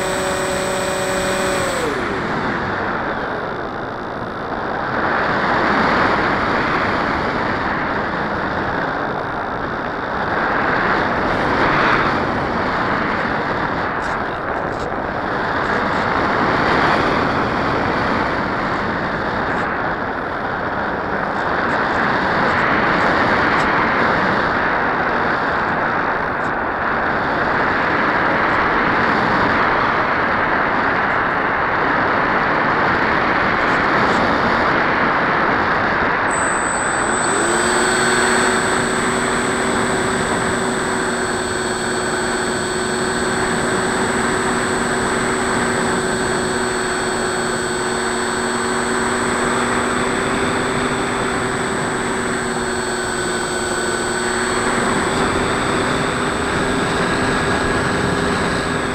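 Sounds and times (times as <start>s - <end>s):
electric motor and propeller: 0.0s - 58.9s.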